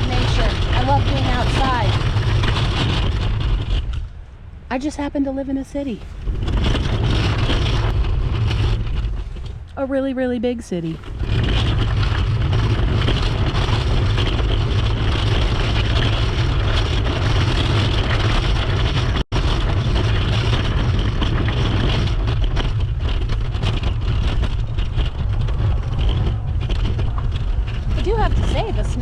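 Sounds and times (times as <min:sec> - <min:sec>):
scooter wheels rolling over snow: 0:00.0 - 0:04.1, 0:04.8 - 0:29.0
wind buffeting microphone: 0:00.0 - 0:29.0.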